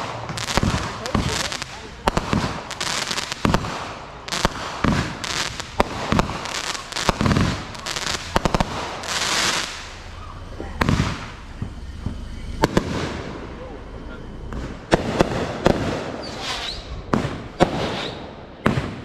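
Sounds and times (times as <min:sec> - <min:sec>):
firework hissing burst: 0:00.0 - 0:19.0
fireworks bangs and crackling: 0:00.0 - 0:19.0.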